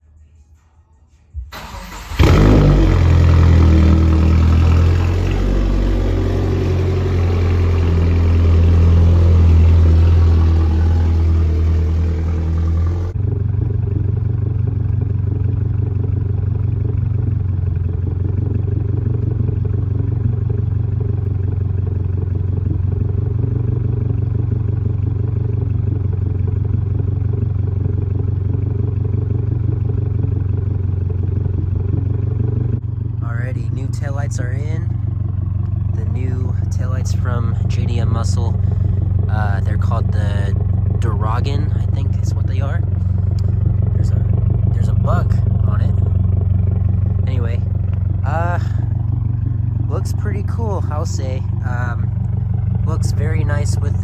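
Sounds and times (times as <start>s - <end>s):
car engine revving and idling: 1.4s - 54.0s.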